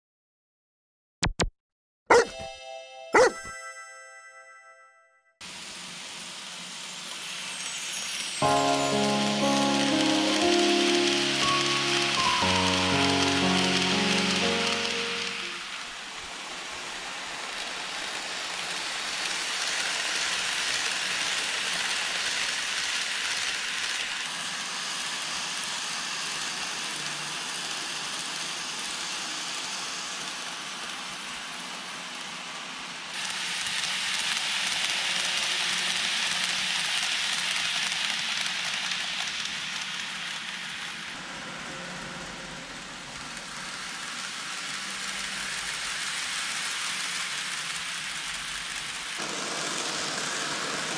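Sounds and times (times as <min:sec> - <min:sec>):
model train wheels rolling on rails: 0:05.4 - 0:50.9.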